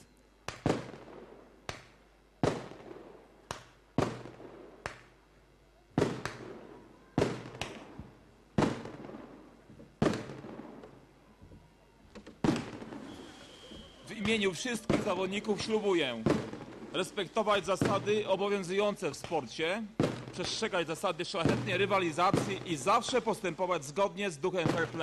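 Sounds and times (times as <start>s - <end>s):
fireworks bangs with echo: 0.4s - 5.2s, 6.0s - 11.0s, 12.4s - 25.0s.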